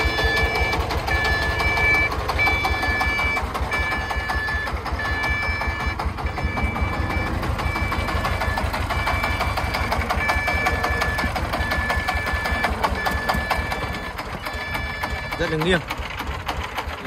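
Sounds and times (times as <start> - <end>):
two-tone reversing alarm beeping: 0.0 - 15.8
diesel engine chugging: 0.0 - 17.0.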